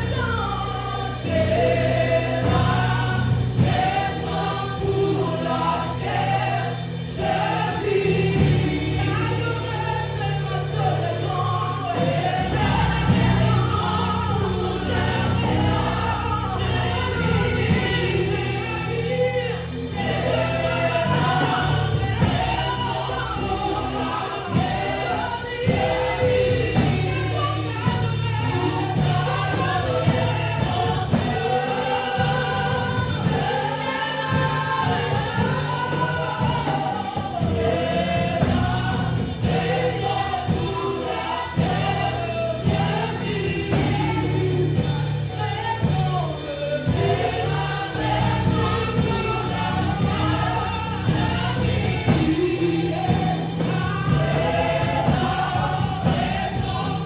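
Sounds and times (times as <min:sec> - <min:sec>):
band with bass and drums: 0:00.0 - 0:57.0
choir singing gospel song: 0:00.0 - 0:57.0.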